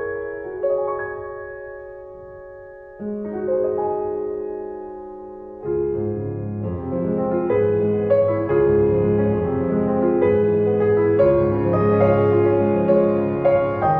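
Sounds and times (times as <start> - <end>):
slow piano chords: 0.0 - 13.9.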